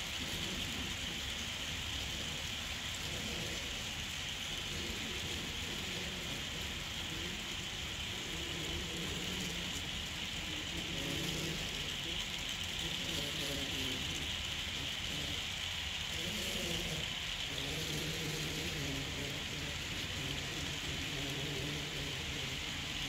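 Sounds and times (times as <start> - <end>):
model train cars rolling on track: 0.0 - 23.0.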